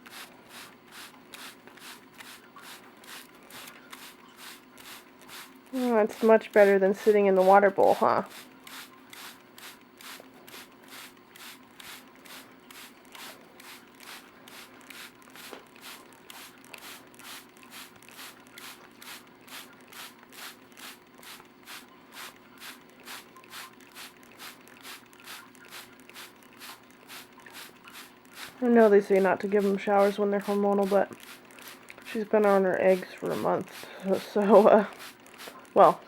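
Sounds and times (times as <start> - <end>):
faint steady hum: 0.0 - 36.0
spray bottle squirting water: 0.0 - 36.0.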